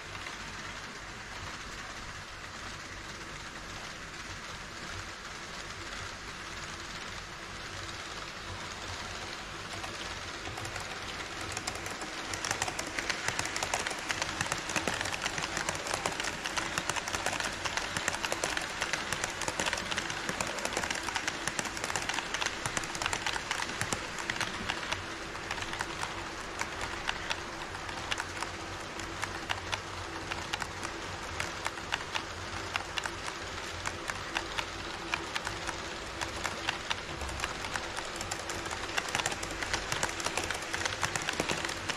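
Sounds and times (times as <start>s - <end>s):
model train running on track: 0.0s - 41.9s
wheels clicking over track joints: 8.0s - 41.9s.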